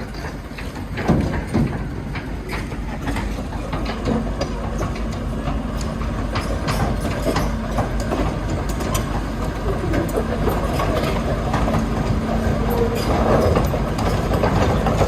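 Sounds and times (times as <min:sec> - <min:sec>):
heavy diesel engine running: 0:00.0 - 0:15.0
machinery clanks and knocks: 0:00.0 - 0:15.0.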